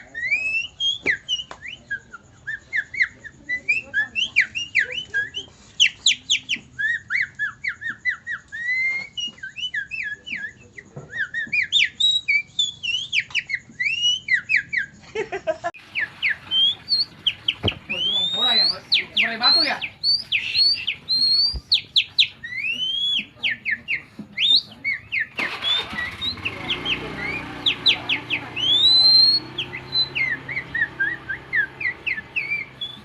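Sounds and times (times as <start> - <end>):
man whistling birdsong imitation: 0.0 - 15.0, 15.9 - 33.0.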